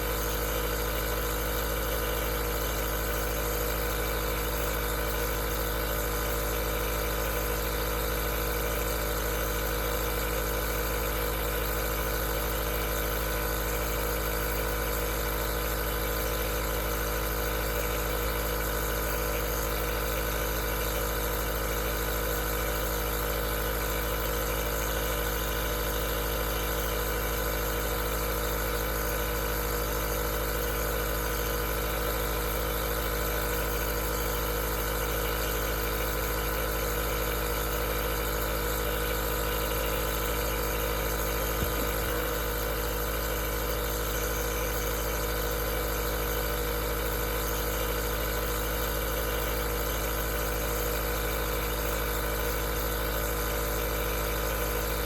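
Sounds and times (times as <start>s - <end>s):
compressor motor hum: 0.0s - 55.0s.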